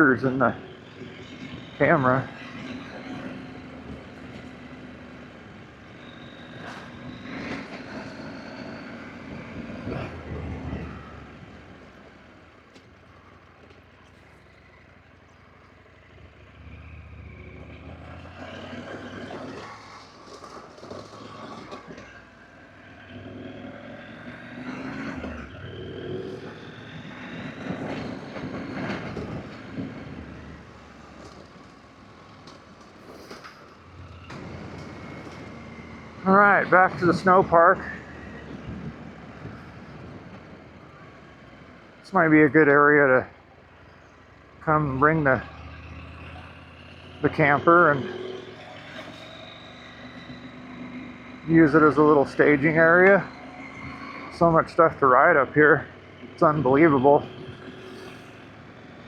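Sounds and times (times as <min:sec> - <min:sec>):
motorcycle engine revving: 0:00.0 - 0:43.1, 0:43.7 - 0:59.0.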